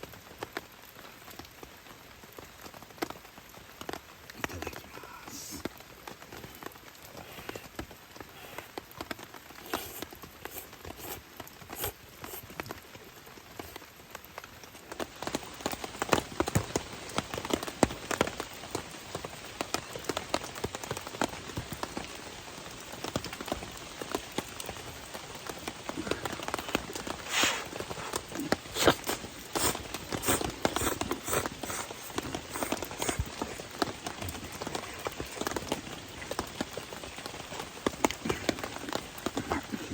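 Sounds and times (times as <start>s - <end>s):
raindrops clicking on a surface: 0.0s - 39.9s
steady rain falling: 0.0s - 39.9s.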